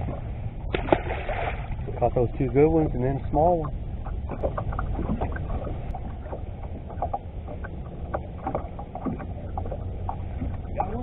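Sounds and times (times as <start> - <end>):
water against boat hull: 0.0 - 11.0
wind rumble: 0.0 - 11.0.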